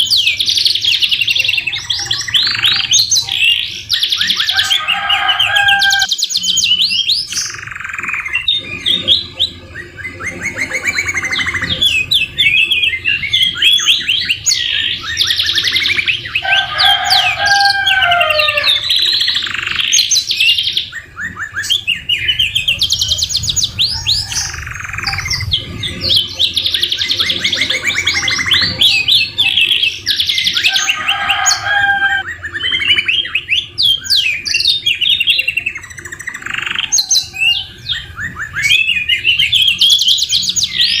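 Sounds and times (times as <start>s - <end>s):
canary singing in fast trills: 0.0s - 41.0s.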